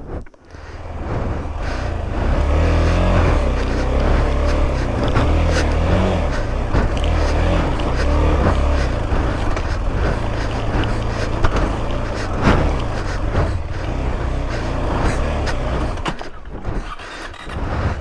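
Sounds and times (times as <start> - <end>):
motorcycle engine under load: 0.0 - 18.0.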